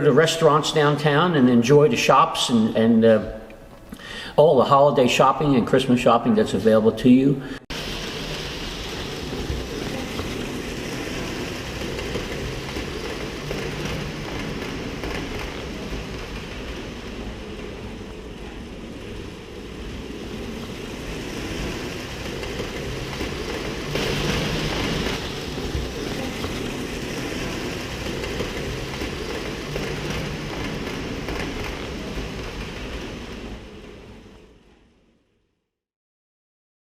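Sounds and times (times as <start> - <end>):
model trains rumbling on track: 4.5 - 35.0.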